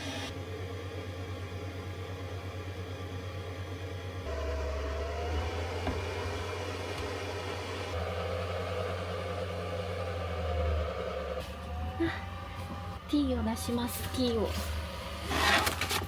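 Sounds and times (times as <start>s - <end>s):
electric appliance hum: 0.0s - 16.0s.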